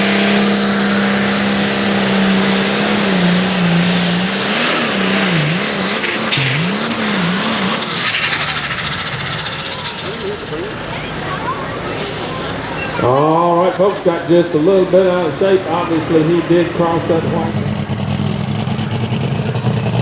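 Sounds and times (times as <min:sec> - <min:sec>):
turbo whine: 0:00.0 - 0:13.0, 0:14.0 - 0:18.1
diesel engine at full throttle: 0:00.0 - 0:20.0.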